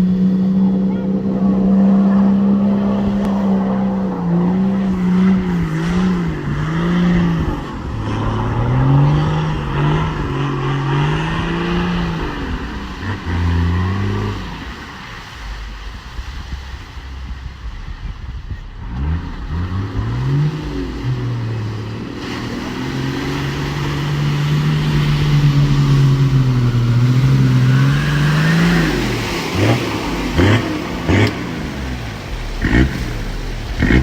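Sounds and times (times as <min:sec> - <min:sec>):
short engine revs: 0:00.0 - 0:17.9, 0:18.7 - 0:34.0
engine pulling under load: 0:00.0 - 0:18.0, 0:18.6 - 0:34.0.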